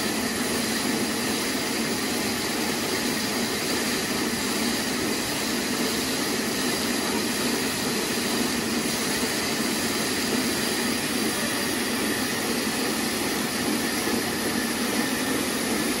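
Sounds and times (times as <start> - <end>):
band sawmill running: 0.0 - 16.0.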